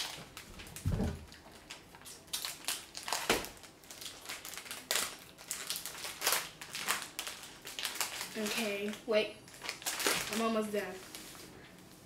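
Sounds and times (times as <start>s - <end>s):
snack wrappers crinkling and tearing: 0.0s - 11.6s.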